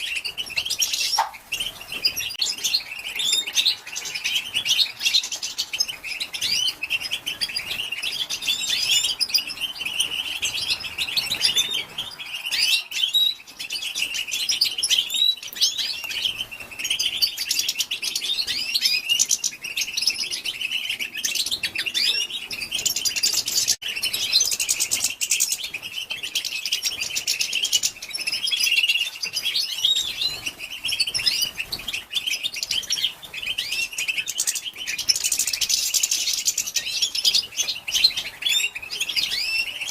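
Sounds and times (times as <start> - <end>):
goldfinch chattering: 0.0 - 39.9.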